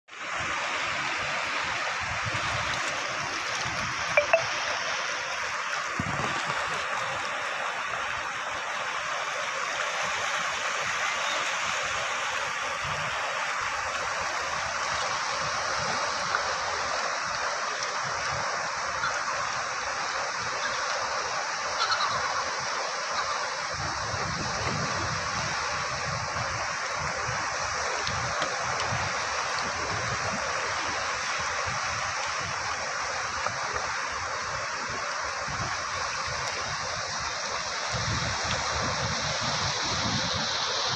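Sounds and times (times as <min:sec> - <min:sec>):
ocean surf on rocks: 0:00.1 - 0:40.9.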